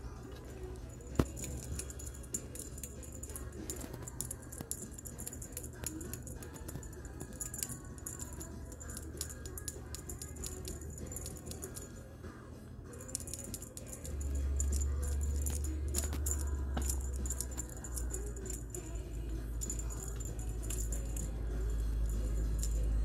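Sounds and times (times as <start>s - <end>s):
cat toy clicks and jingles: 0.0s - 12.1s, 12.9s - 23.0s.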